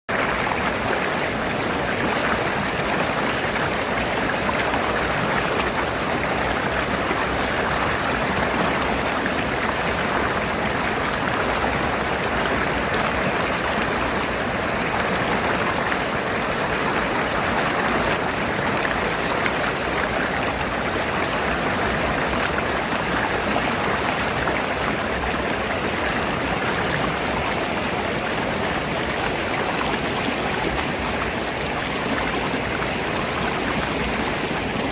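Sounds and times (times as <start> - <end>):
water rushing over rocks: 0.1 - 34.9.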